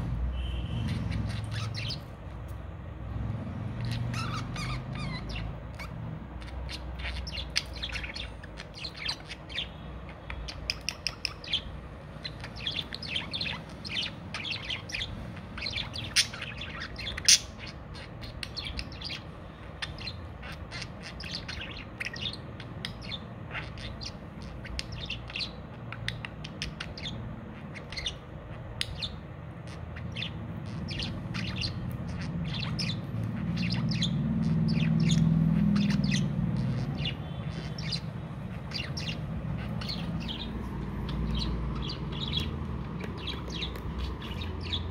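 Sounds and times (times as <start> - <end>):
budgerigars chattering: 0.4 - 2.1, 3.7 - 44.9.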